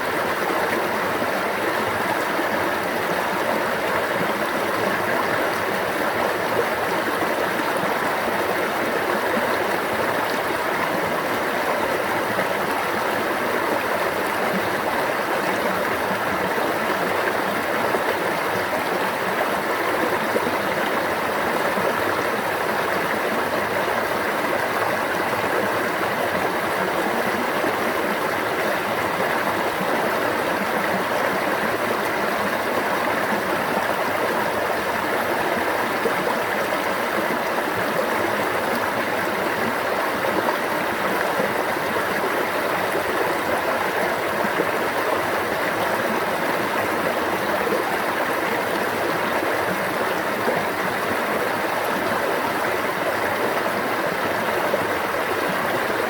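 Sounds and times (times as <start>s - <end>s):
stream water babbling: 0.0s - 56.0s.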